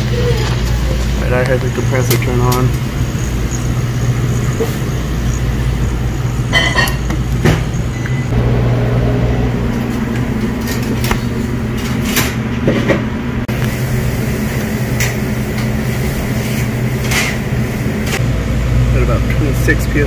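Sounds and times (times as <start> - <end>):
compressor humming: 0.0 - 20.0.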